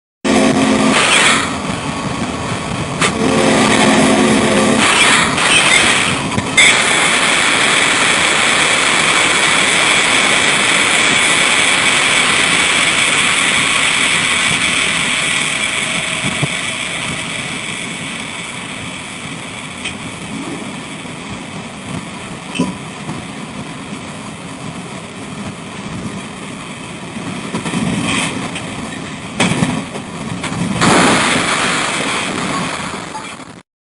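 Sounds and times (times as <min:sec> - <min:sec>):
train rolling by: 0:00.3 - 0:33.6.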